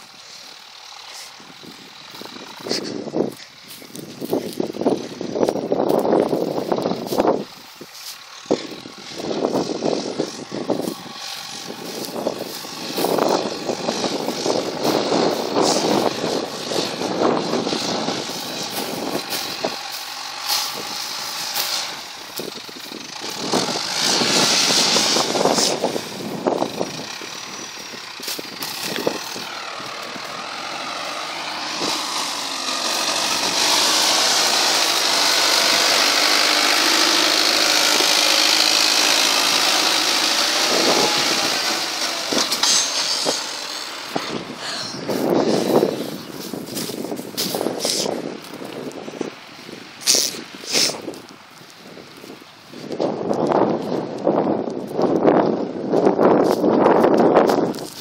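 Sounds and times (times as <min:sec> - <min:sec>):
tractor diesel engine under load: 0:00.0 - 0:58.0
gusting wind noise: 0:00.8 - 0:58.0.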